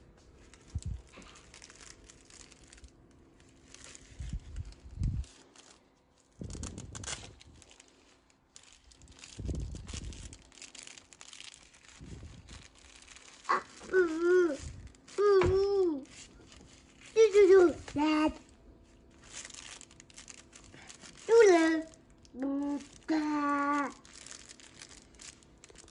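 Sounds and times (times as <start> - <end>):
crinkly fabric pages rustling: 0.0 - 25.9.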